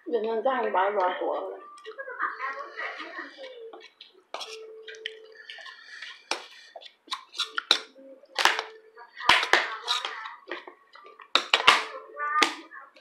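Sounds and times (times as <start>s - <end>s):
voices talking: 0.0s - 6.7s, 7.8s - 13.0s.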